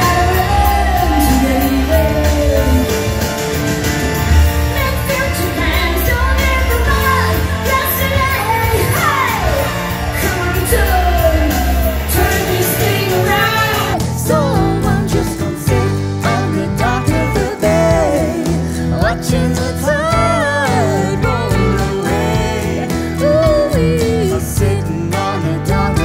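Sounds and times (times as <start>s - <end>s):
lead vocalist belting: 0.0s - 26.0s
live pop band playing: 0.0s - 26.0s.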